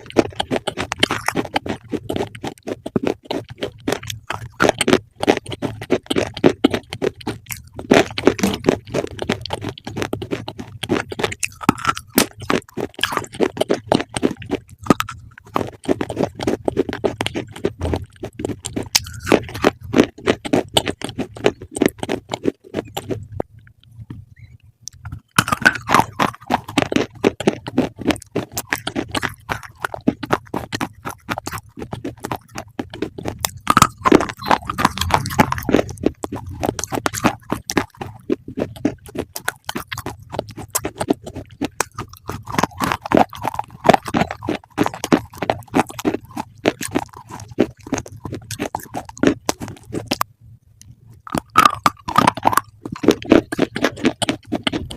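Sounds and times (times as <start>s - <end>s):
crunchy food being chewed: 0.0s - 54.9s.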